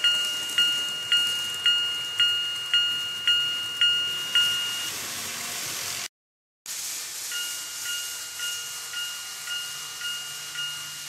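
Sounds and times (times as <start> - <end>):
level crossing warning bell dinging: 0.0 - 5.2, 7.3 - 11.0.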